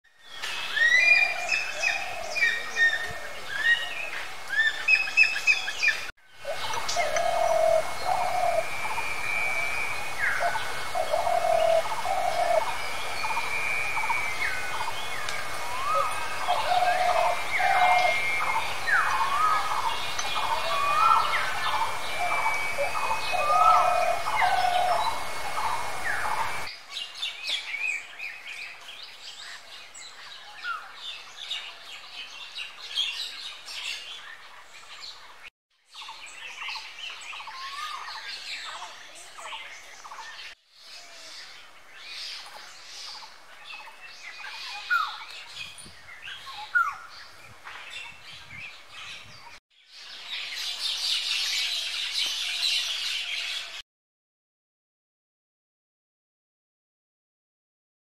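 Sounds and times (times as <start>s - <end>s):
birds calling and chirping: 0.2s - 53.8s.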